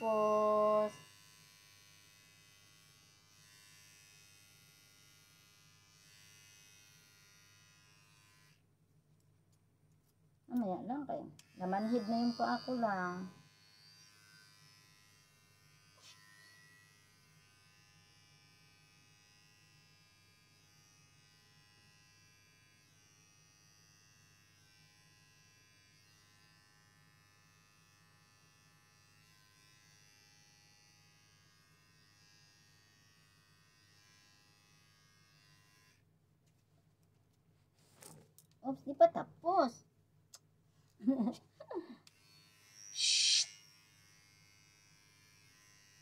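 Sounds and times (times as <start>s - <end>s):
electric hair clippers buzzing: 0.0s - 8.6s, 11.3s - 36.0s, 42.0s - 46.0s.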